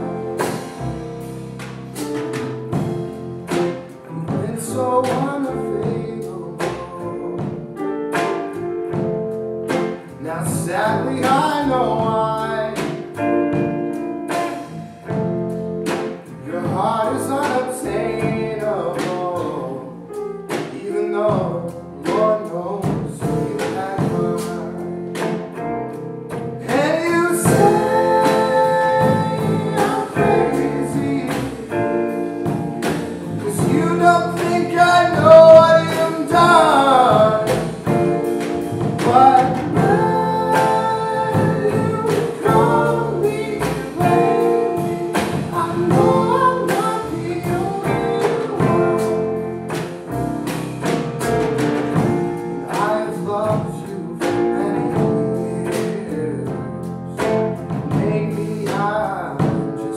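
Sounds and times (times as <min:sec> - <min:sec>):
drums: 0:00.0 - 0:59.9
keyboard: 0:00.0 - 0:59.9
upright bass: 0:00.0 - 0:59.9
person singing: 0:02.1 - 0:25.6, 0:26.6 - 0:59.9
electric guitar: 0:06.7 - 0:18.4, 0:22.9 - 0:59.9.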